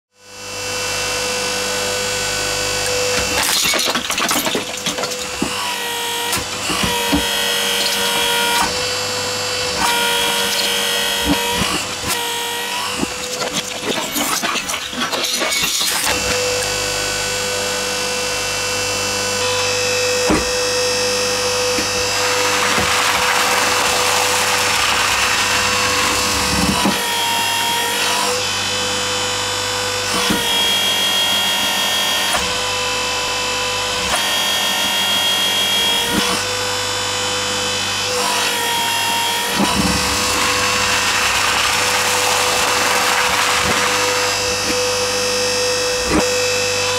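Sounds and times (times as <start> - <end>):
hydraulic pump whining: 0.4 - 46.9.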